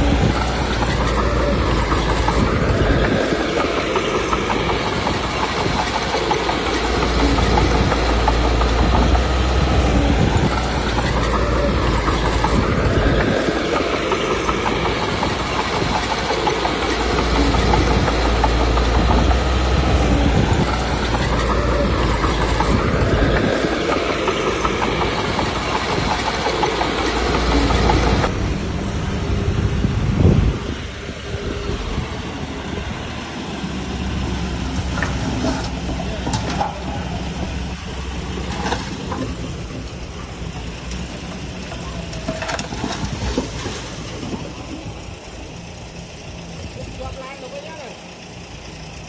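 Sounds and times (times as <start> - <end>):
bulldozer clattering: 0.0 - 49.0
bulldozer diesel engine: 0.0 - 49.0.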